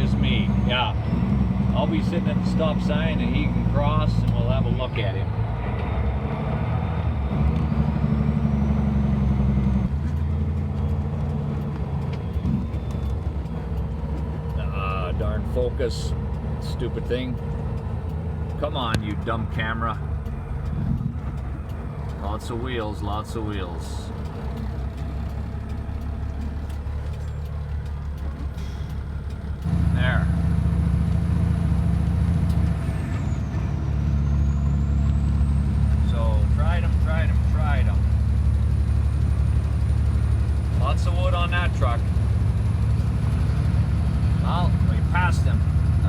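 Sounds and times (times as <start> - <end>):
vehicle engine hum: 0.0 - 46.0.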